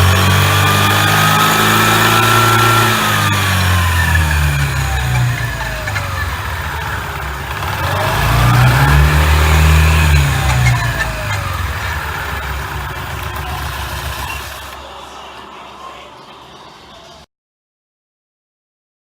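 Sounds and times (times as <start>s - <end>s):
scooter engine: 0.0s - 16.7s
thin drivetrain whine: 0.0s - 16.7s.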